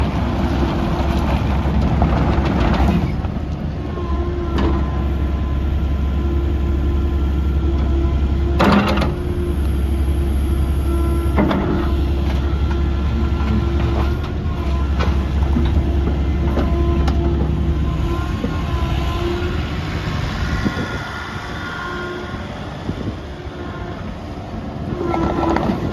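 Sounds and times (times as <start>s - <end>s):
excavator diesel engine running: 0.0s - 25.9s
steady whine: 4.8s - 25.9s.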